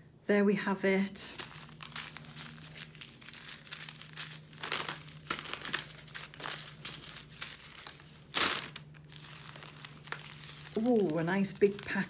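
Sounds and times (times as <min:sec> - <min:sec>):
plastic packs crinkling: 0:01.3 - 0:12.0.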